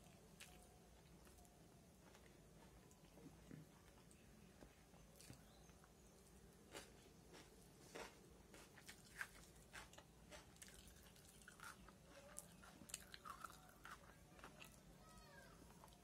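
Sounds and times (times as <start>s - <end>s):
faint chewing: 0.0s - 16.0s.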